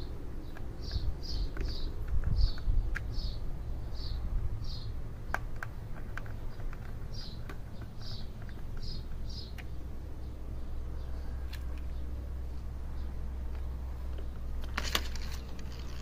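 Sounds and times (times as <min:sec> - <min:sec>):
low steady rumble: 0:00.0 - 0:16.0
small bird chirping: 0:00.0 - 0:16.0.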